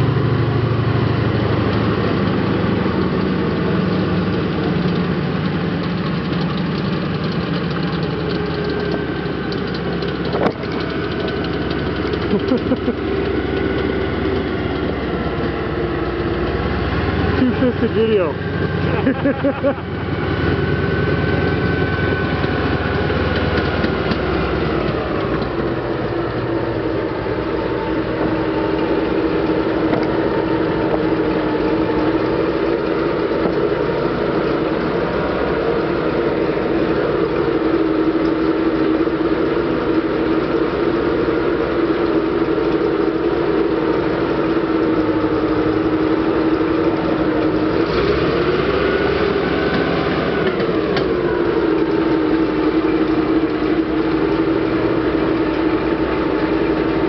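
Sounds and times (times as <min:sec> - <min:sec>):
radial engine running: 0:00.0 - 0:57.0.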